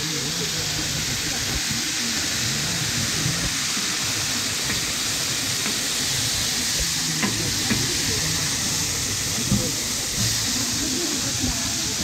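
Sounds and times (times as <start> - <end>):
faint crowd chatter: 0.0 - 12.0
meat sizzling on a grill: 0.0 - 12.0.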